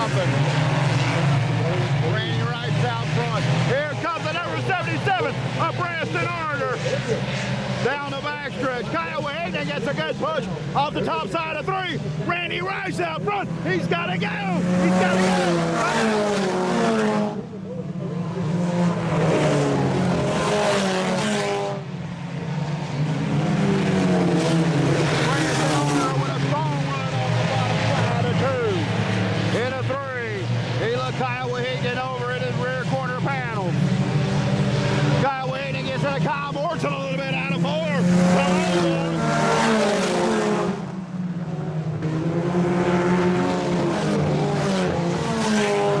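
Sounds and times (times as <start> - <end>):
race car engines at speed: 0.0 - 46.0.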